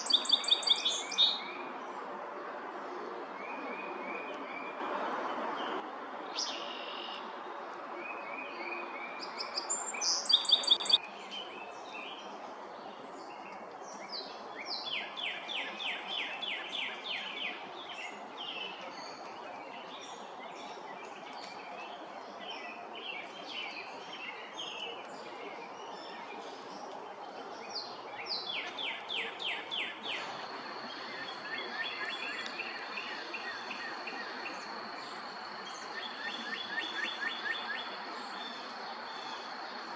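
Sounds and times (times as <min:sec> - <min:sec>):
birds calling and singing: 0:00.0 - 0:01.7, 0:08.0 - 0:39.9
steady outdoor hiss: 0:00.0 - 0:39.9.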